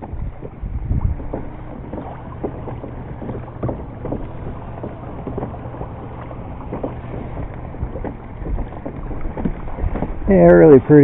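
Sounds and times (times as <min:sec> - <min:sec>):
steady low hum: 0:00.0 - 0:11.0
water splashing against hull: 0:00.0 - 0:11.0.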